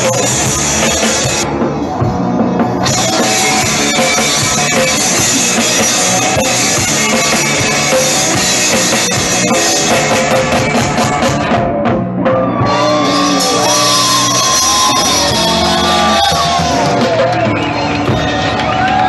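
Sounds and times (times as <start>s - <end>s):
drum kit beating: 0.0s - 19.0s
live rock band playing: 0.0s - 19.0s.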